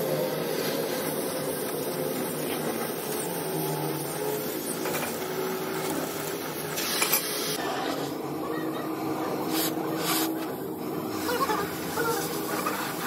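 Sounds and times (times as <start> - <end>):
cutting torch hissing: 0.0 - 13.0.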